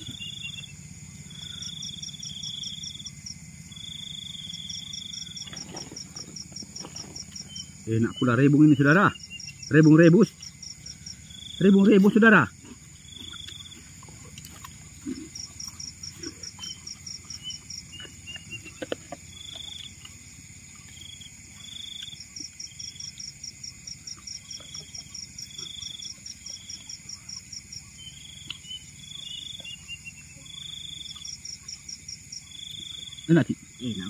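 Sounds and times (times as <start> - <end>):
high-pitched insect whine: 0.0 - 34.0
pulsing insect chirps: 0.0 - 34.0
short buzzing insect calls: 0.0 - 34.0.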